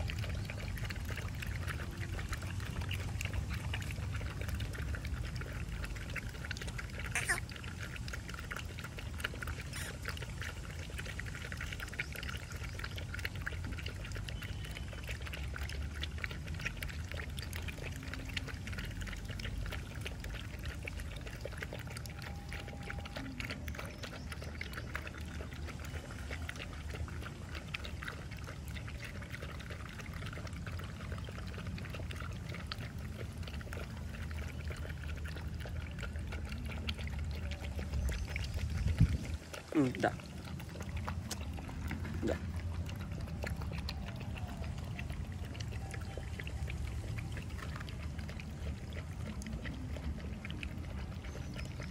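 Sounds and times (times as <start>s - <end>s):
puppies lapping milk: 0.0s - 51.9s.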